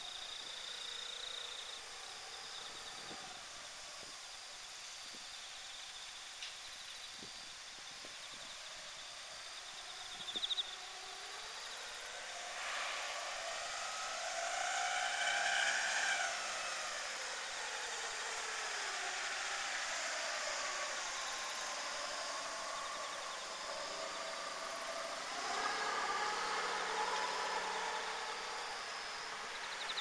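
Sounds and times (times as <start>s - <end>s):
distant engine passing by: 0.0s - 4.6s, 7.9s - 30.0s
faint insects chirping: 0.0s - 30.0s.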